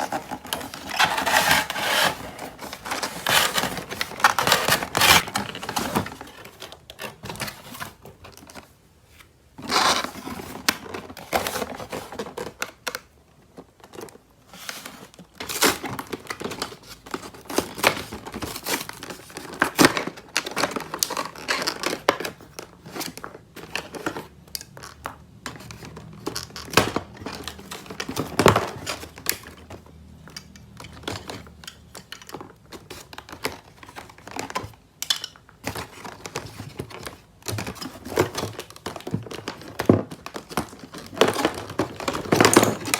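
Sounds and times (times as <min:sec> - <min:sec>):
plastic packaging crinkling and tearing: 0:00.0 - 0:08.7, 0:09.6 - 0:42.9.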